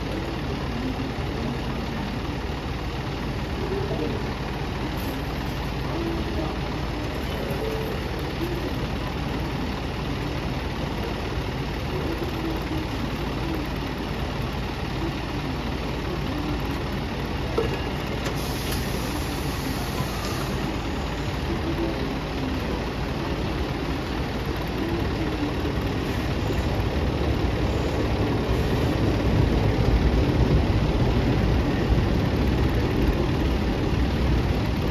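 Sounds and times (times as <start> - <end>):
bus engine idling: 0.0 - 34.9.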